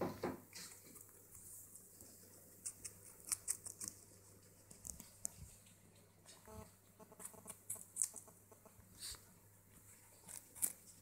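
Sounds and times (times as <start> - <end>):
animals crunching raw carrot: 0.5 - 9.2, 9.9 - 11.0.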